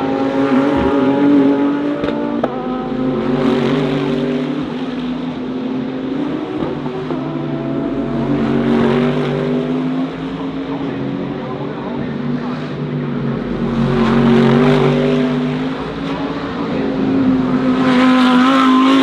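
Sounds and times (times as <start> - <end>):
race car engines high note: 0.0 - 19.0
race cars passing by: 0.0 - 19.0.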